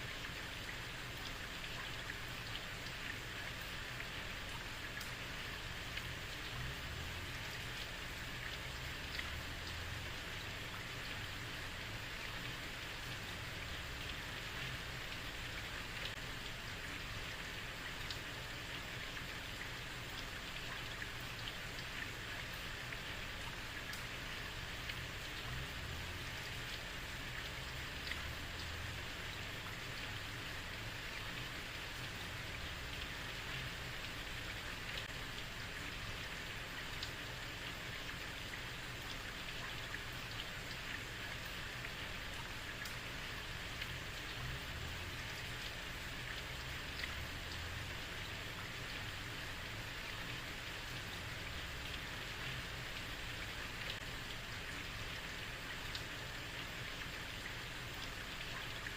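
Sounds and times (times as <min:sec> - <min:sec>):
raindrops splashing: 0:00.0 - 0:58.9.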